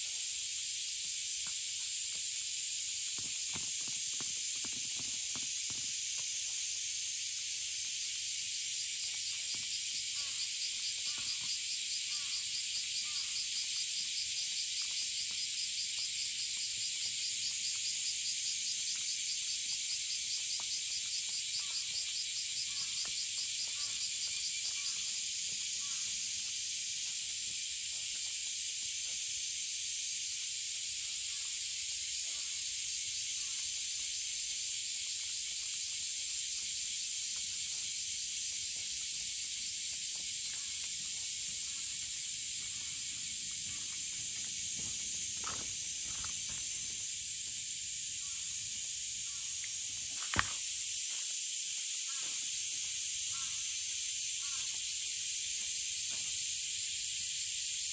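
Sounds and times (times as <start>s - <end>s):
cicadas chorus: 0.0s - 57.9s
pulsing insect trill: 0.0s - 57.9s.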